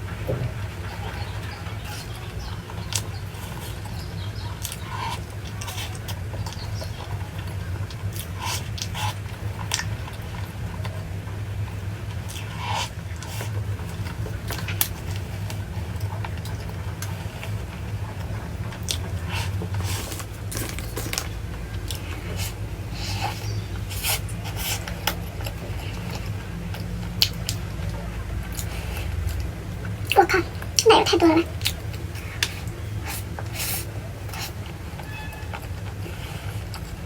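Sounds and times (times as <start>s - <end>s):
steady low hum: 0.0s - 37.0s
chewing crunchy food: 0.6s - 37.0s.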